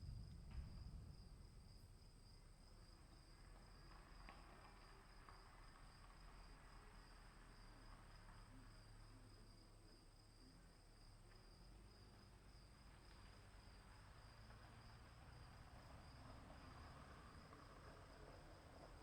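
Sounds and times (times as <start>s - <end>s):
crickets chirping: 0.0s - 19.0s
faint low rumble: 0.0s - 19.0s.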